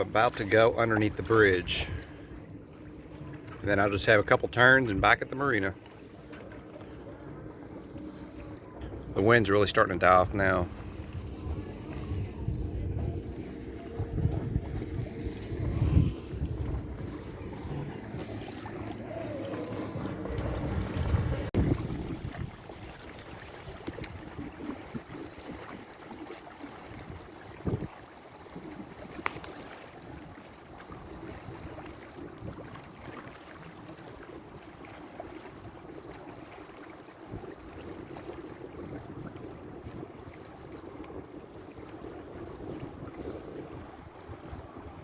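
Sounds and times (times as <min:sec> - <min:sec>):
water rushing along boat hull: 0:00.0 - 0:45.0.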